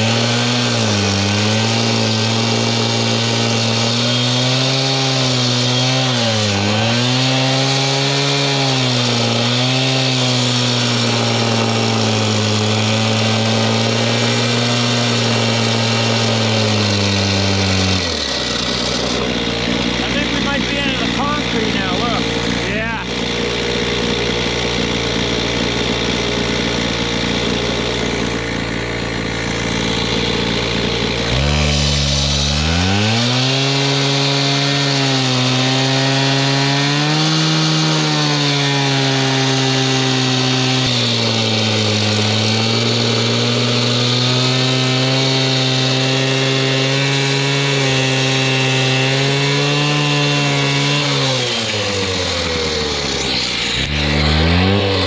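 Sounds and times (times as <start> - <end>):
concrete saw cutting concrete: 0.0 - 55.0.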